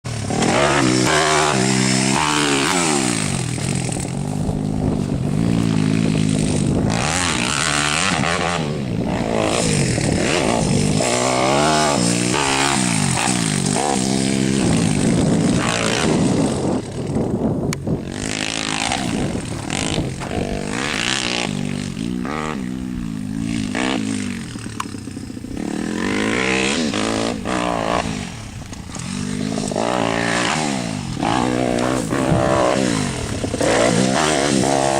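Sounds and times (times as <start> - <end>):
small motorbike engine revving: 0.0 - 34.9.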